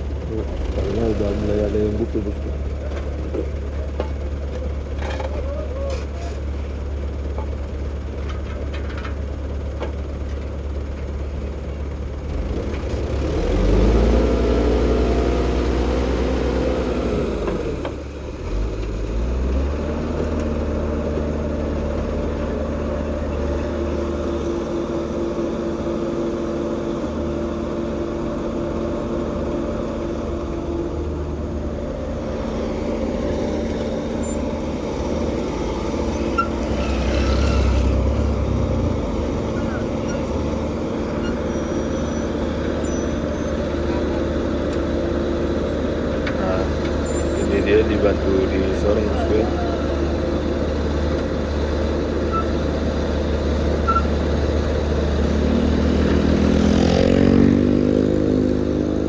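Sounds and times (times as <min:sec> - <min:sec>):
vehicle engine revving: 0:00.0 - 0:03.0, 0:12.3 - 0:59.0
engine running steadily: 0:00.0 - 0:59.0.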